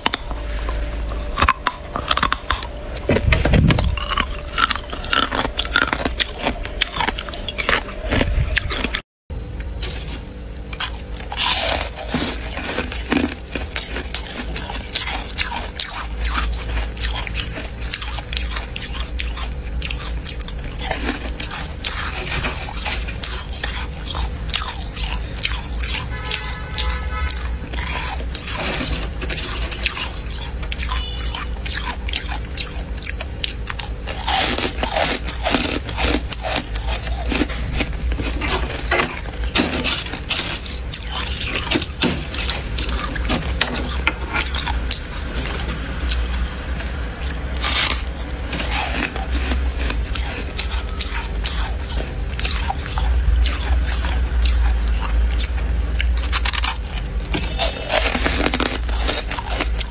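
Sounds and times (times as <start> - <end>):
frost being chewed: 0.0 - 59.9
low steady hum: 0.0 - 59.9
spoon scraping frost: 9.8 - 54.9, 56.0 - 59.9.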